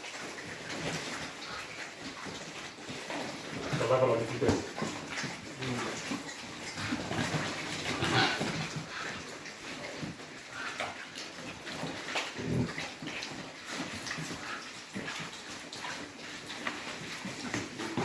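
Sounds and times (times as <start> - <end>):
pigs grunting and snuffling: 0.0 - 18.0.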